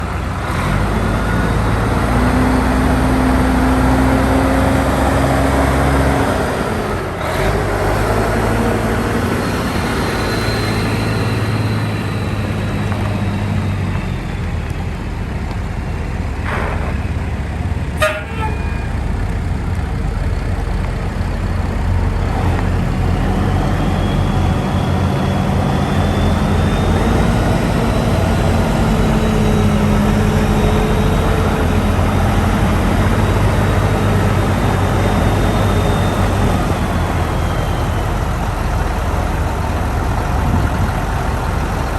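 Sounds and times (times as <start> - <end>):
truck diesel engine running: 0.0 - 41.9.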